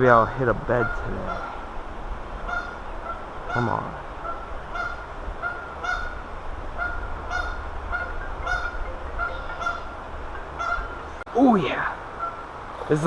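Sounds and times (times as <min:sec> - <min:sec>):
geese honking: 0:00.7 - 0:01.8, 0:02.4 - 0:11.2, 0:12.0 - 0:13.0.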